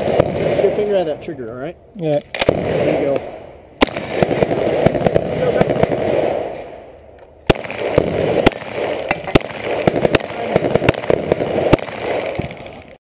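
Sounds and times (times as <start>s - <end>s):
pistol shots: 0.0s - 1.3s, 2.2s - 12.8s.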